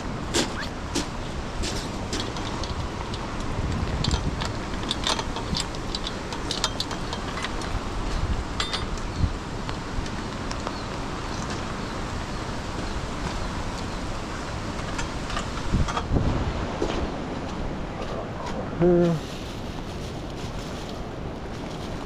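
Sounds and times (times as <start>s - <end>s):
wind and rain rushing: 0.0s - 22.0s.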